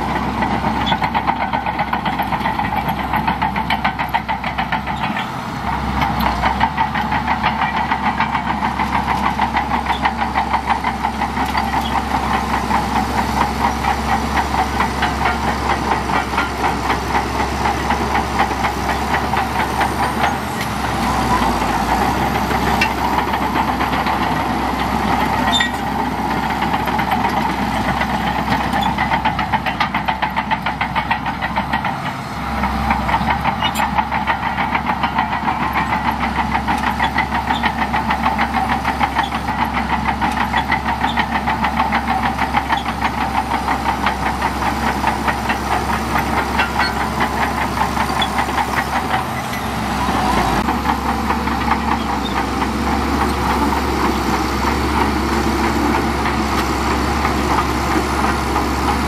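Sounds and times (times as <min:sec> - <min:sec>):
bulldozer diesel engine clatter: 0:00.0 - 0:59.0.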